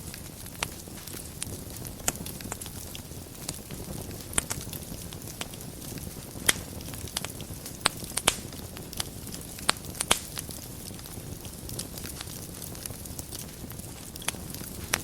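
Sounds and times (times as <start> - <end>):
fire flames rustling: 0.0 - 15.0
wood crackling and popping: 0.0 - 15.0.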